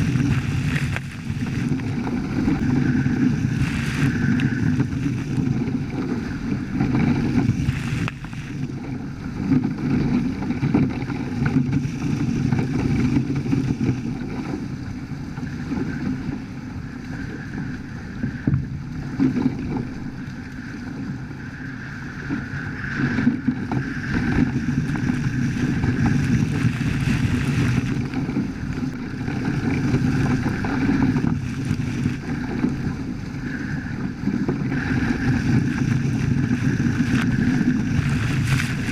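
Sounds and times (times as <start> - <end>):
water rushing past hulls: 0.0 - 38.9
wind buffeting microphone: 0.0 - 38.9.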